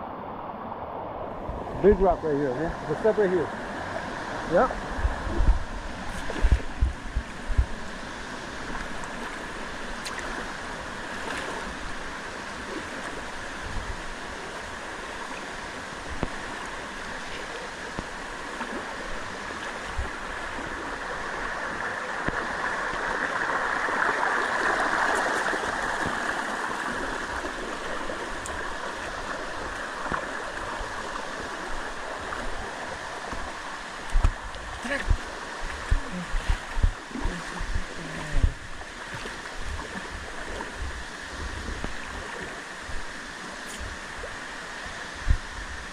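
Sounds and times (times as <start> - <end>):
waterfall rushing over rock: 1.8 - 45.9.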